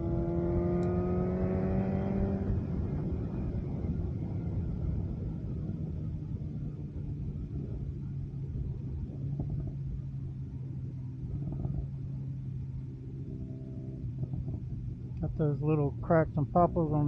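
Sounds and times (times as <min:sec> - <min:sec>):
motorcycle exhaust rumble: 0:00.0 - 0:17.0.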